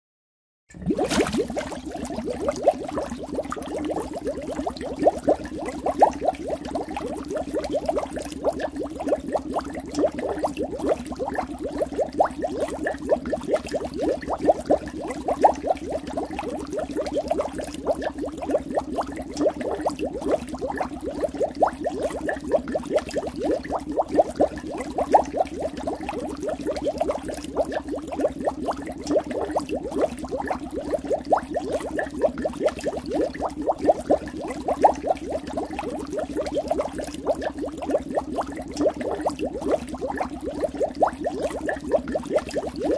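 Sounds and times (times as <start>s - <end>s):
air bubbles in water: 0.7s - 42.9s.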